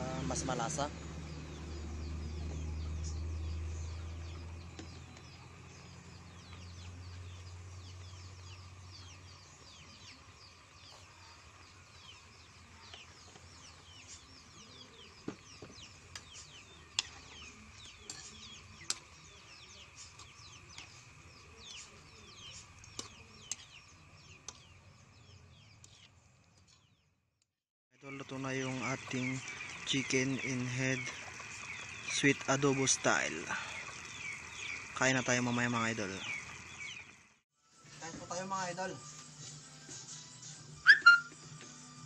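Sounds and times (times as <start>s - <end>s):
small birds chirping: 0.0s - 27.1s, 28.0s - 37.4s.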